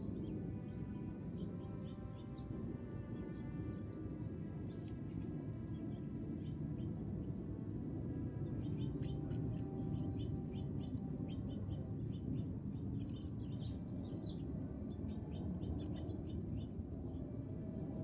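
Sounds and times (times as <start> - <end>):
small birds chirping: 0.0 - 7.7, 8.3 - 18.0
low background rumble: 0.0 - 18.0.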